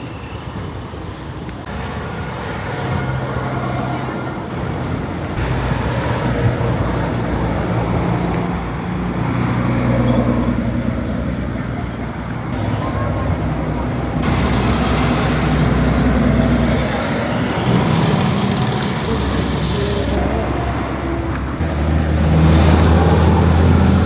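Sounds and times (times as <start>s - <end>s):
trucks passing on road: 0.0s - 24.0s.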